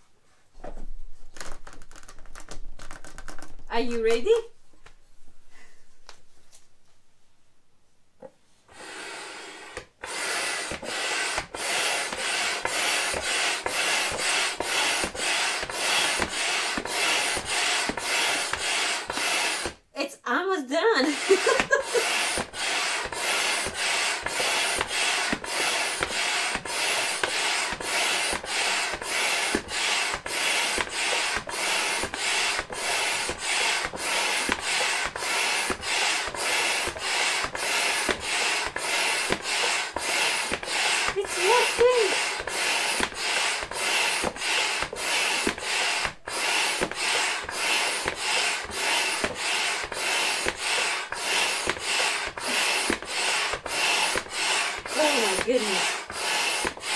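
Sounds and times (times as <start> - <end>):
hand pump strokes rushing air: 8.7 - 19.9, 21.0 - 56.9.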